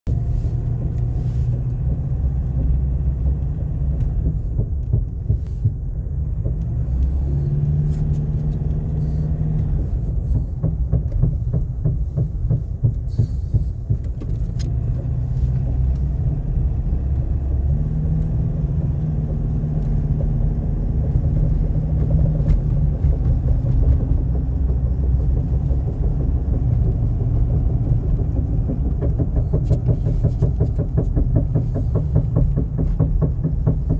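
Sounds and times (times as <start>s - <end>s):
pickup engine rumbling: 0.0s - 33.9s.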